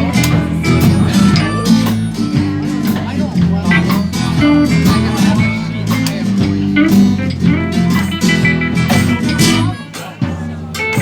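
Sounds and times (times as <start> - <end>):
electric guitar: 0.0 - 11.0
live blues band: 0.0 - 11.0.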